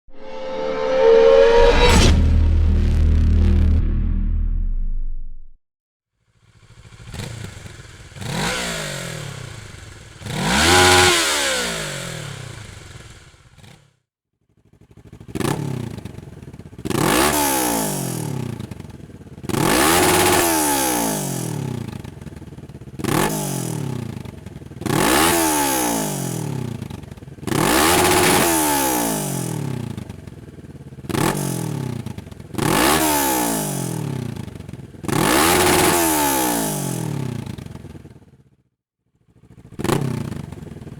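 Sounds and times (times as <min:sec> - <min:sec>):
motorcycle engine revving: 0:06.4 - 0:13.9, 0:14.6 - 0:38.5, 0:39.2 - 0:40.9.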